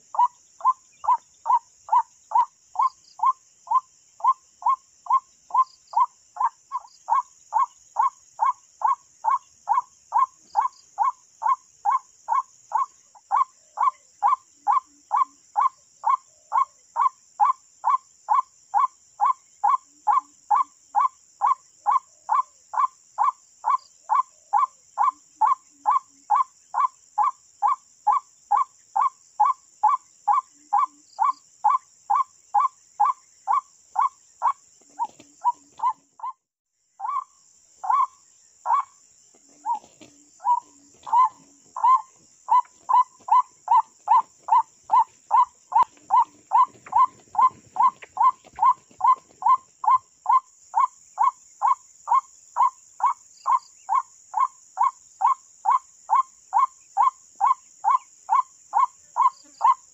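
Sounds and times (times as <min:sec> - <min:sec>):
recorded bird call on loop: 0:00.0 - 0:59.9.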